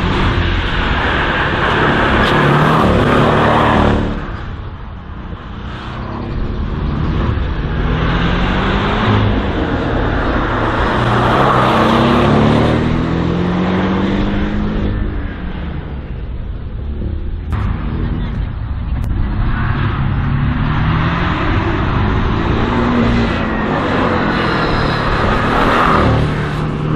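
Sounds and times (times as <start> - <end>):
race car engine revving: 0.0 - 4.7, 5.3 - 16.1, 16.9 - 26.9.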